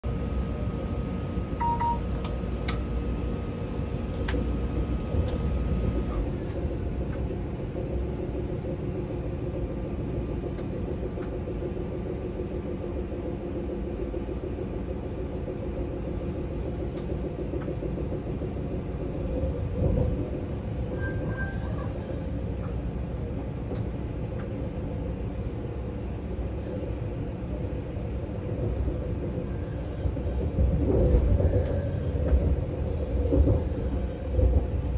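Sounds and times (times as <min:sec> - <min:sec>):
train rumbling along track: 0:00.0 - 0:34.9.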